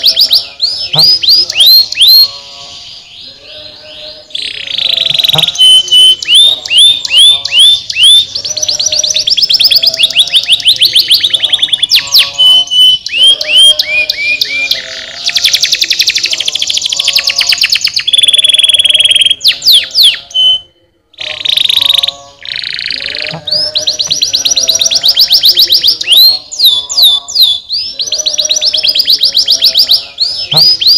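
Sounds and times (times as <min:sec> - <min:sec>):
canary singing: 0:00.0 - 0:30.9.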